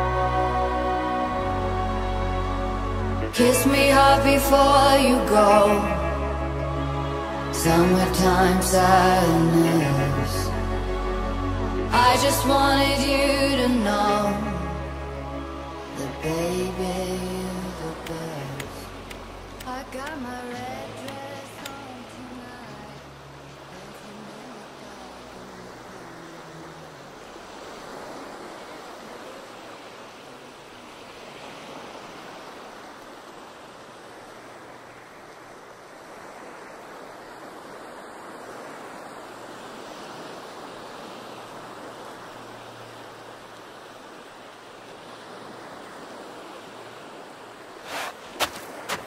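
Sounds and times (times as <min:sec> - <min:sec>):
ocean surf on beach: 0:00.0 - 0:49.0.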